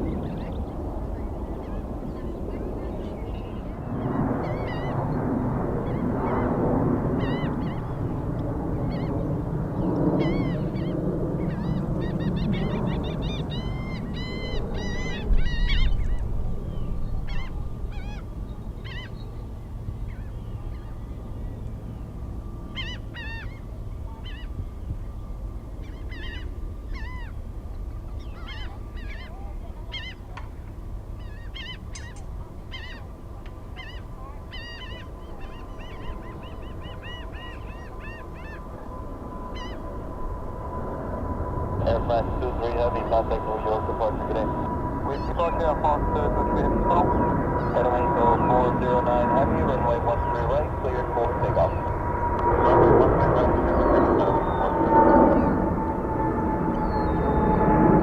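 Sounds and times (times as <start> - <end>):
birds honking: 0.0 - 21.4, 22.4 - 24.5, 25.8 - 27.4, 28.2 - 30.4, 31.1 - 57.8
jet engine rumble: 0.0 - 58.0.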